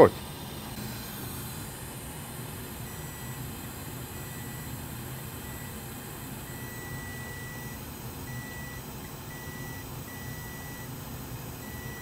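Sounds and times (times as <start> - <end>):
low hum and hiss: 0.0 - 12.0
multimeter continuity beeping: 1.6 - 11.0, 11.6 - 12.0.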